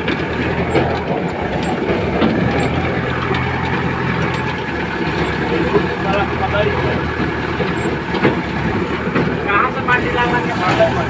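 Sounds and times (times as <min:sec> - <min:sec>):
heavy vehicle engine humming: 0:00.0 - 0:11.0
rattling clatter: 0:00.0 - 0:11.0.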